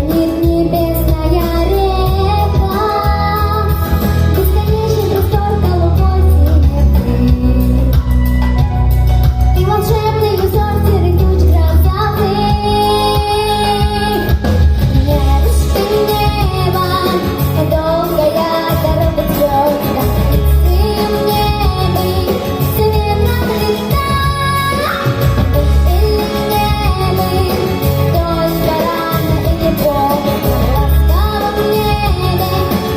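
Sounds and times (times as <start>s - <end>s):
girl singing: 0.0s - 8.1s, 9.6s - 14.3s, 15.0s - 32.9s
instrumental music with bass: 0.0s - 32.9s.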